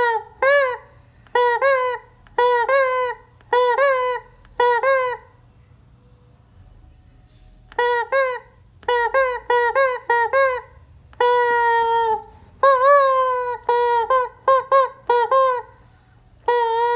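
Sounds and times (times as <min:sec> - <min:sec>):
rubber chicken toy squawking: 0:00.0 - 0:05.4, 0:07.7 - 0:15.8, 0:16.4 - 0:16.9.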